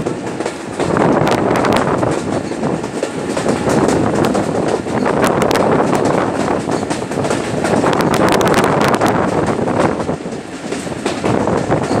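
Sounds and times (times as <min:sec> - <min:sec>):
train wheels rattling on rails: 0:00.0 - 0:12.0
wind rushing over microphone: 0:00.0 - 0:12.0.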